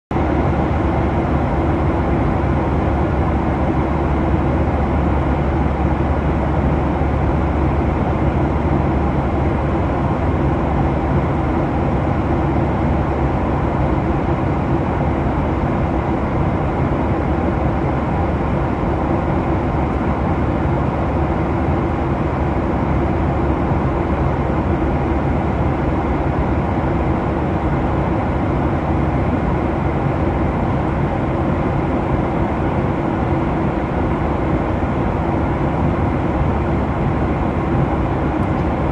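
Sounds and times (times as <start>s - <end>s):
airliner cabin jet engine drone: 0.1s - 38.9s.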